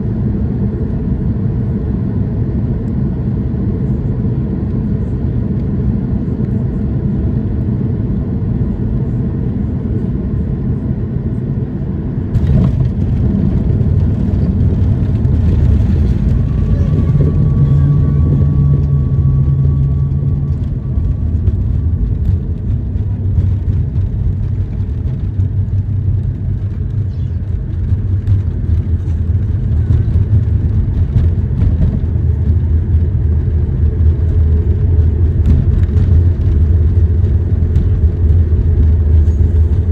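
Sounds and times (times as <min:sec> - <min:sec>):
airliner cabin rumble: 0:00.0 - 0:39.9
engine hum and whine: 0:00.0 - 0:39.9.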